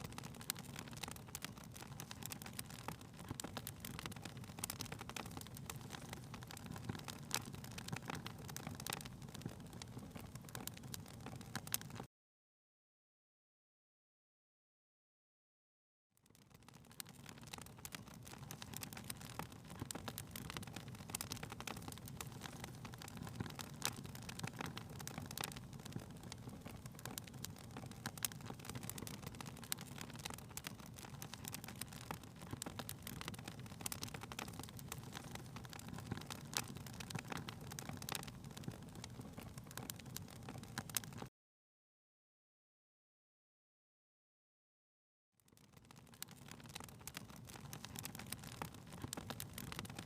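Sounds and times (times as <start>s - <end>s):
fire crackling in fireplace: 0.0s - 12.1s, 16.2s - 41.3s, 45.4s - 50.0s.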